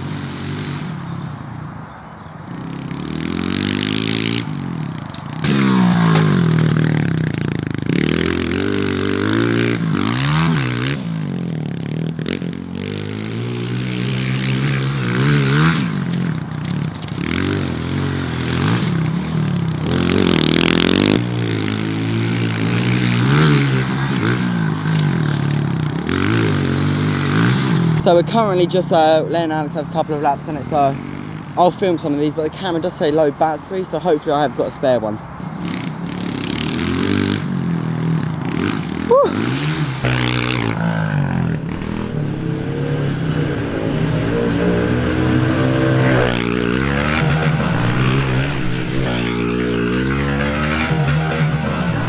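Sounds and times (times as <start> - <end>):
motorbike engine revving: 0.0 - 1.6, 2.4 - 28.7, 35.4 - 52.0.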